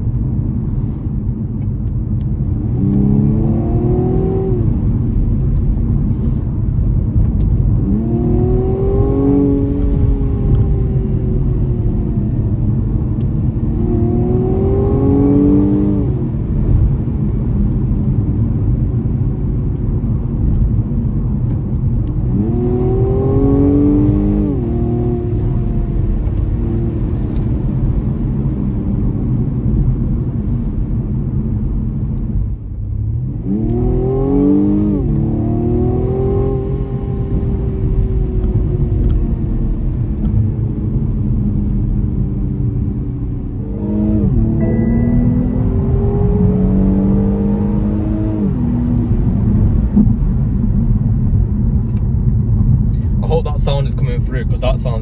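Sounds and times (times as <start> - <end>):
road drone: 0.0 - 55.0
car engine accelerating: 0.7 - 55.0.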